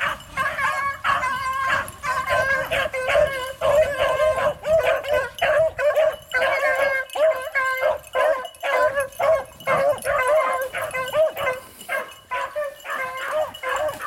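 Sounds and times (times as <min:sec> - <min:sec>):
hounds baying: 0:00.0 - 0:14.0.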